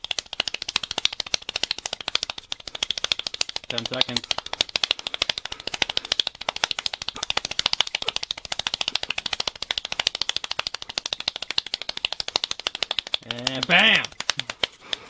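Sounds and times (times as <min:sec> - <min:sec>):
rapid hand clapping: 0:00.0 - 0:15.0.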